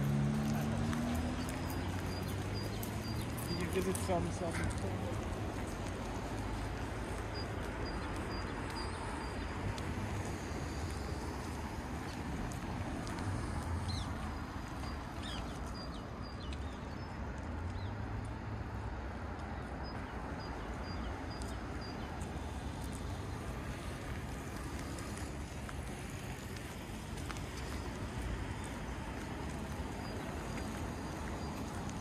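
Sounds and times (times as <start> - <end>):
distant traffic rumble: 0.0 - 32.0
wind: 0.0 - 32.0.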